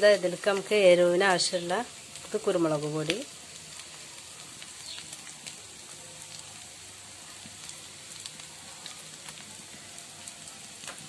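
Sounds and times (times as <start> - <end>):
food sizzling in hot oil: 0.0 - 11.0
oil crackling: 0.0 - 11.0.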